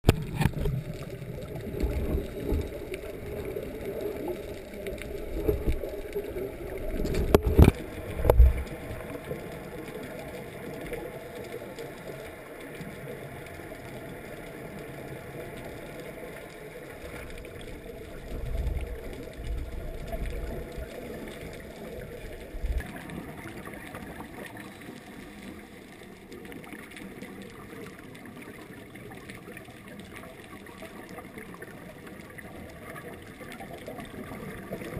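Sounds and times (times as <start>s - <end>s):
muffled underwater wash: 0.0s - 34.9s.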